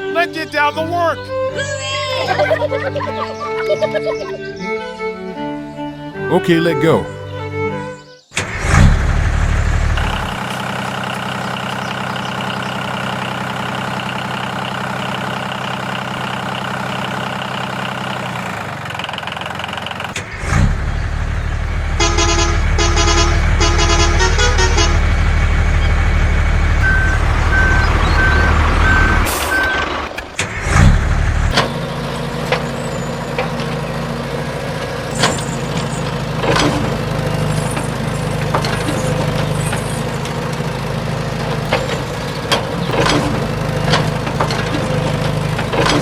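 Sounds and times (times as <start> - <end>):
vehicle engine running: 8.6 - 46.0.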